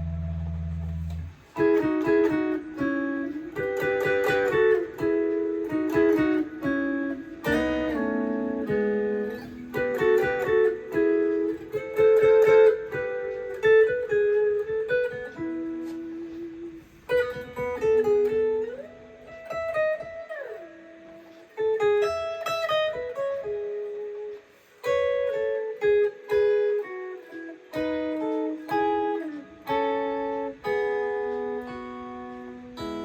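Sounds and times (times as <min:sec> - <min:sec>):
plucked guitar melody: 0:00.0 - 0:33.0.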